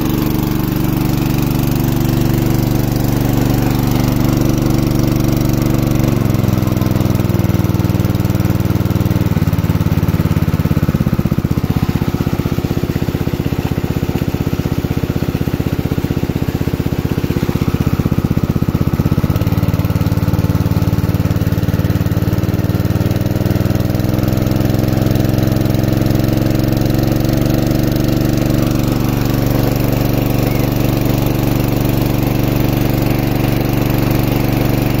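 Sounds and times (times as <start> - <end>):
small petrol engine running: 0.0 - 35.0
water jet splashing on ground: 0.0 - 35.0.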